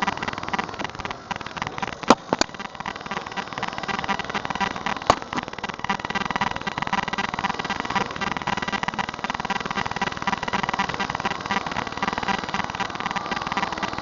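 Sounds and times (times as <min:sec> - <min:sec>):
lawnmower engine running: 0:00.0 - 0:14.0
sharp clicks or knocks: 0:00.0 - 0:14.0.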